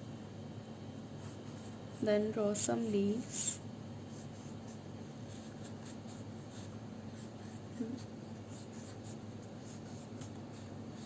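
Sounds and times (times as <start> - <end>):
faint steady hum: 0.0 - 11.0
drawing tool scratching on paper: 1.2 - 11.0.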